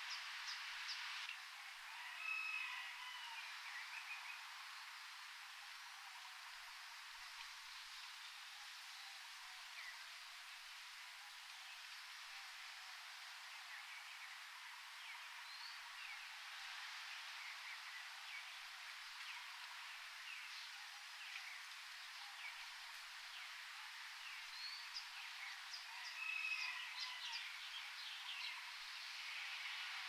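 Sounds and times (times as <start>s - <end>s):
steady forest hiss: 0.0s - 30.0s.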